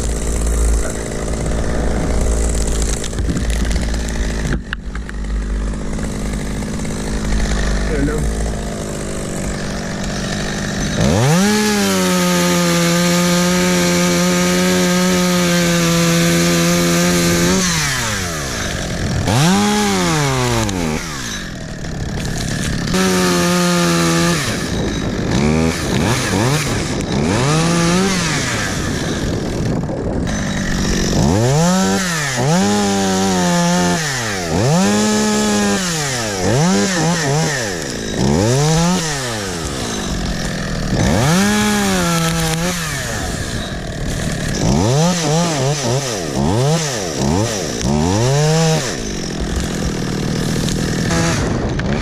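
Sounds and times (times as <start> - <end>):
chainsaw revving: 0.0 - 52.0.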